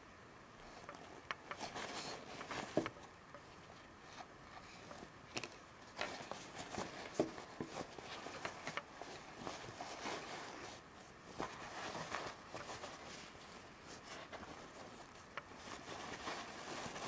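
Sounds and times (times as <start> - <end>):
cloth pouch rustling: 1.6 - 2.8, 4.1 - 17.0.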